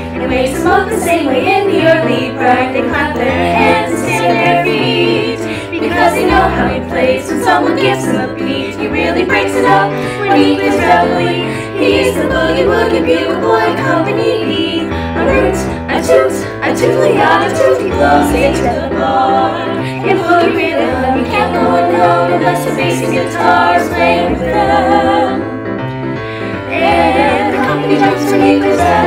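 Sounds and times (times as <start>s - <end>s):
female choir singing in harmony: 0.0s - 29.0s.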